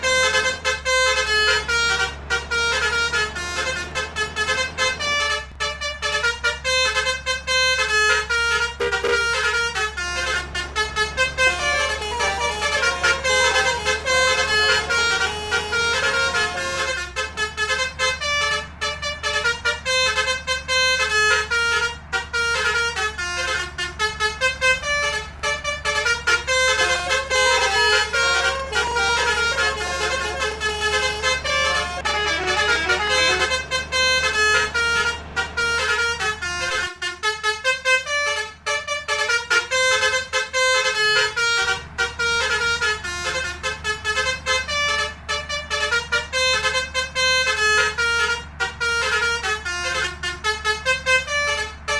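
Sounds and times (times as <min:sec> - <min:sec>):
bus engine rumble: 0:00.0 - 0:51.9
bus musical horn melody: 0:00.0 - 0:51.9.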